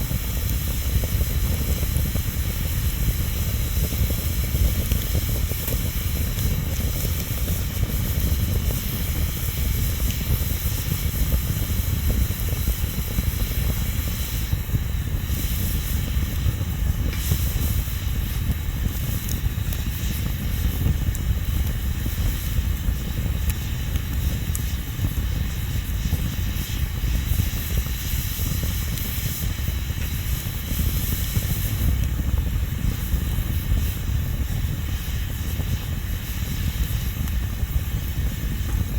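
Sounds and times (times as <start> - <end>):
bonfire flames rumbling: 0.0 - 38.9
wood crackling and popping: 0.0 - 38.9.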